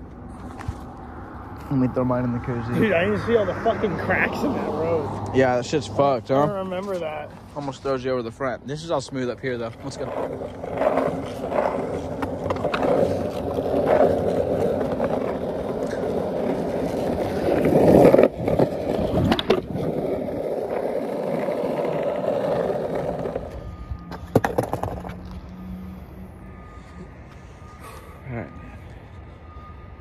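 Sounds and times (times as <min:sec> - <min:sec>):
skateboard wheels rolling on pavement: 0:00.0 - 0:28.0.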